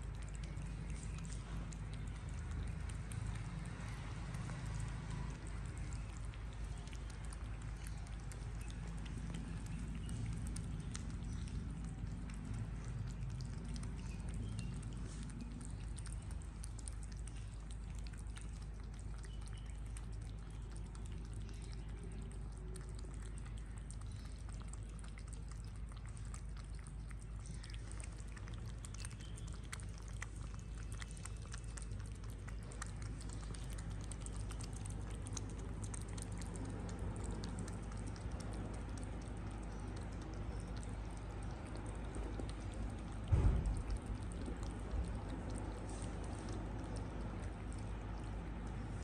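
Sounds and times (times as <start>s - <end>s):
kittens lapping food: 0.0s - 49.0s
low steady hum: 0.0s - 49.0s.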